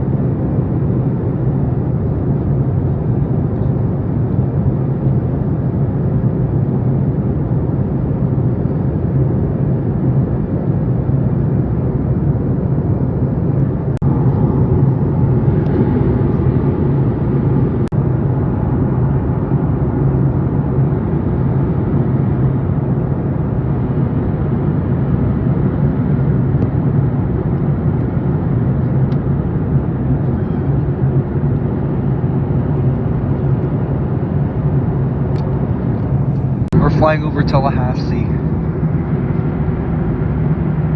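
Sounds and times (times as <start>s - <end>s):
jet engine drone in cabin: 0.0s - 40.9s.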